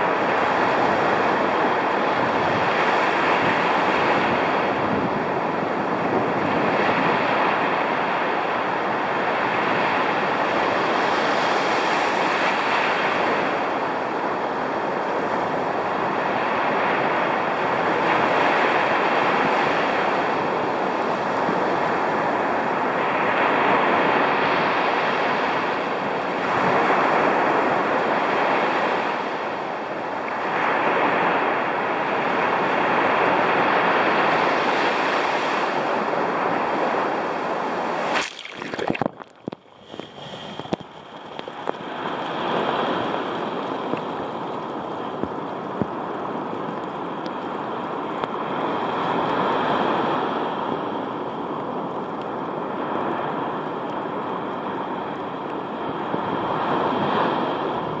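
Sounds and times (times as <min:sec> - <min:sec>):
surf washing up a beach: 0:00.0 - 0:58.0.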